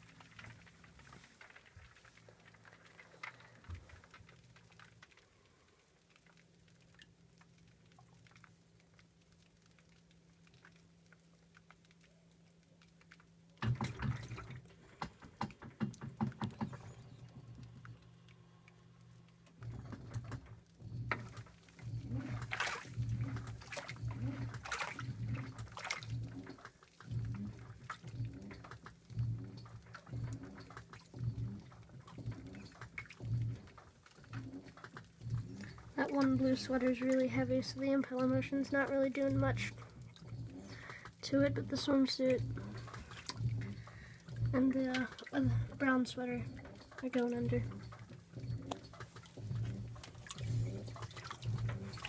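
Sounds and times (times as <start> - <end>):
faint water sounds: 0.0 - 52.0
washing machine agitating in pulses: 0.0 - 52.0
washing machine motor hum: 0.0 - 52.0
water sloshing: 0.0 - 52.0.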